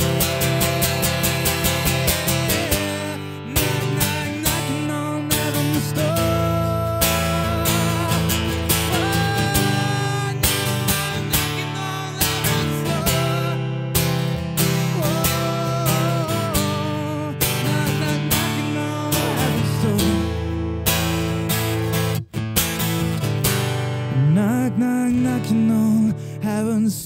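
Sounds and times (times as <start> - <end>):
man singing wordless notes: 0.0 - 20.6, 24.1 - 27.0
acoustic guitar strumming: 0.0 - 27.0.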